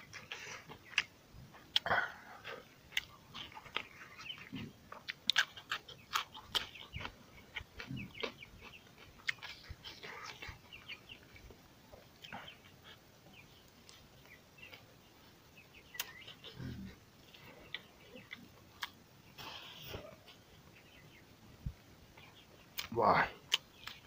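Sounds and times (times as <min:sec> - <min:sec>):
close-up chewing with wet smacking: 0:00.0 - 0:21.0, 0:22.2 - 0:24.0.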